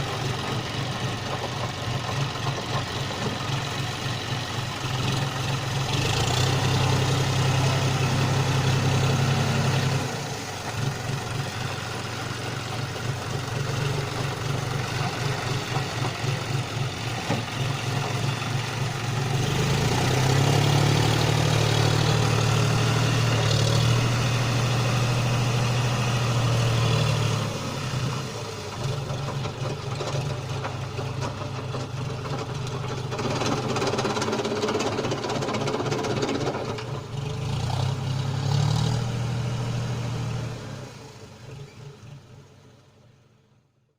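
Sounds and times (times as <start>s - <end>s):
tractor diesel engine running: 0.0s - 43.1s.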